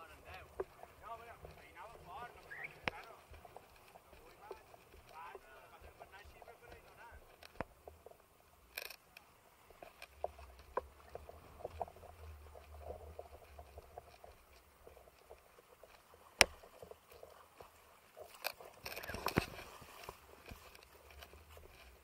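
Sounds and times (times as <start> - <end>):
gear clicks and knocks: 0.0 - 22.0.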